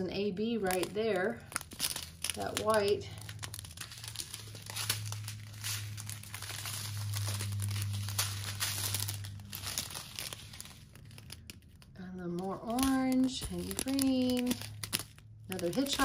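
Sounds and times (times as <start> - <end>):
low steady hum: 0.0 - 16.0
plastic bags crinkling: 0.0 - 16.0.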